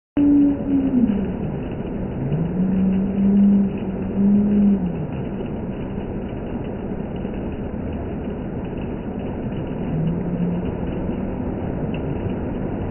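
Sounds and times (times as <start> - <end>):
hail falling: 0.2 - 12.9
vehicle engine hum: 0.2 - 12.9.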